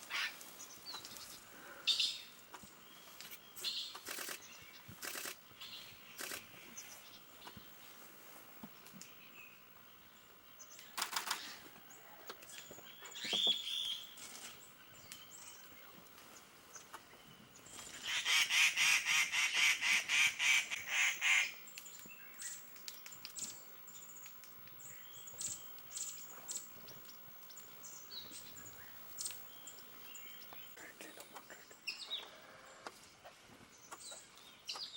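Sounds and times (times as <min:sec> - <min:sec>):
birds chirping: 0:00.0 - 0:08.1, 0:08.7 - 0:34.9.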